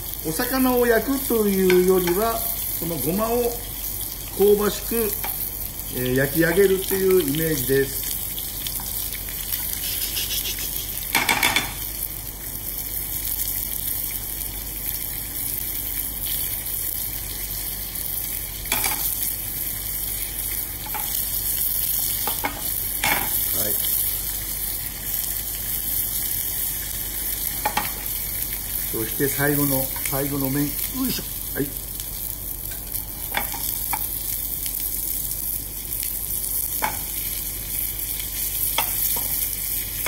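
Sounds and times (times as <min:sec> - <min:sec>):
fish sizzling in frying pan: 0:00.0 - 0:40.0.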